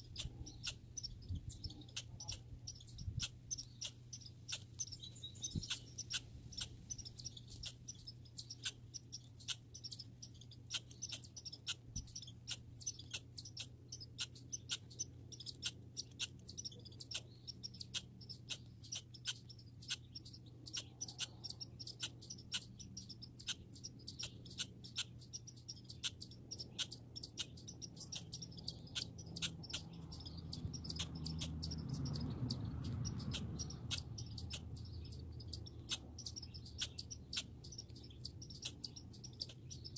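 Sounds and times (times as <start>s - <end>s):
low background hum: 0.0s - 39.9s
squirrel chirping: 0.0s - 39.9s.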